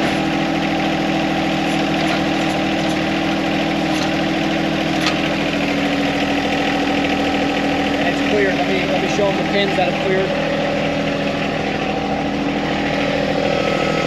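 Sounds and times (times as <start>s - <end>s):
diesel tractor engine idling: 0.0s - 14.0s.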